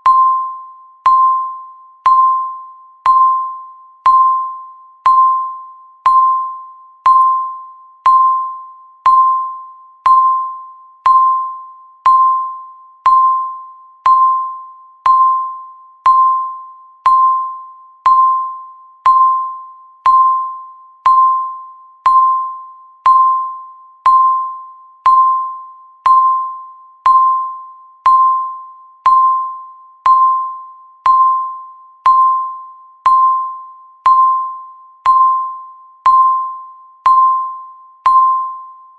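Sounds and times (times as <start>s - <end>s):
bell-like timer beeps: 0.0s - 38.9s.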